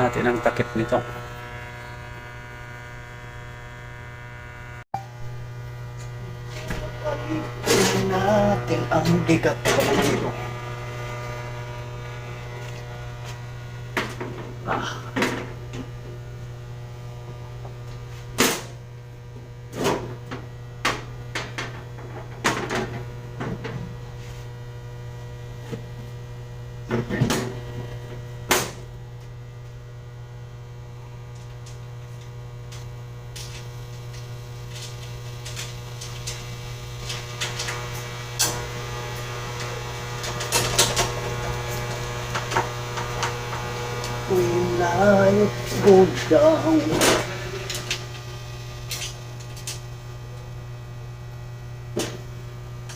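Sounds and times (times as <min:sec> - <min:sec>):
electrical mains hum: 0:00.0 - 0:52.9.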